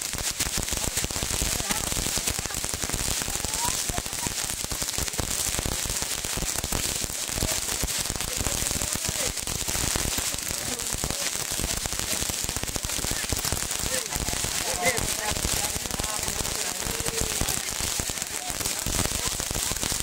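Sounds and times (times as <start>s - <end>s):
fireworks crackling and popping: 0.0s - 20.0s
steady hiss: 0.0s - 20.0s.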